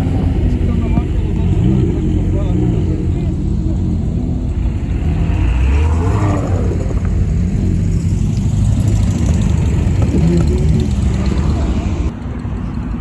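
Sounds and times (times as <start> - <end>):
car engine running: 0.0 - 12.1.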